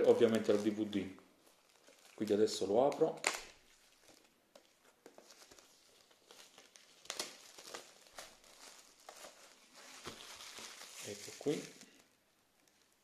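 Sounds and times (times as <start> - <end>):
plastic wrap crinkling and tearing: 0.0 - 13.0.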